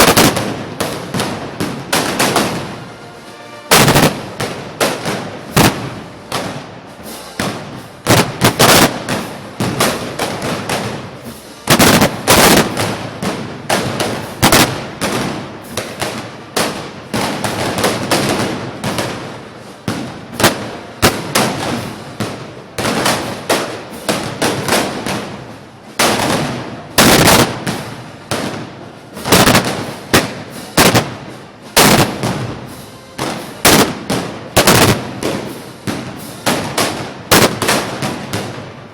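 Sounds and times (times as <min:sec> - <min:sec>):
gunpowder bangs: 0:00.0 - 0:03.0, 0:03.7 - 0:38.8.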